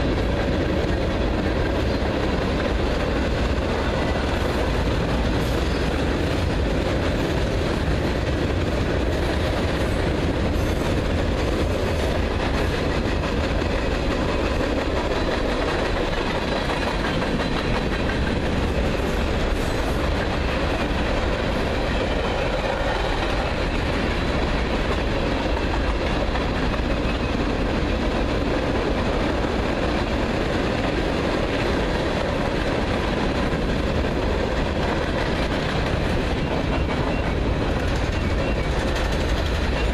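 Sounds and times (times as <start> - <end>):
freight train wheels on rail: 0.0 - 39.9.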